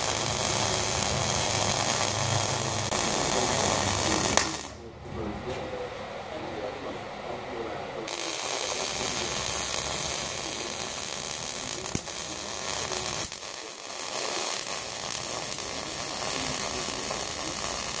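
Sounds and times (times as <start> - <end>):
welding arc hiss: 0.0 - 4.8, 8.1 - 18.0.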